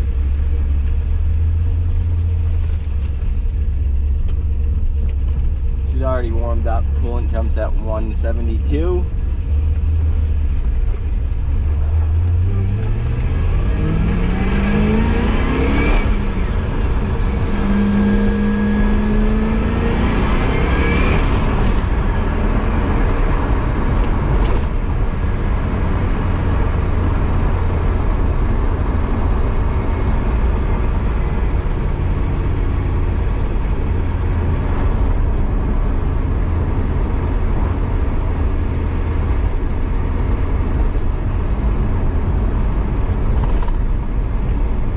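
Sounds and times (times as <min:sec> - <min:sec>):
car engine accelerating: 0:00.0 - 0:44.9.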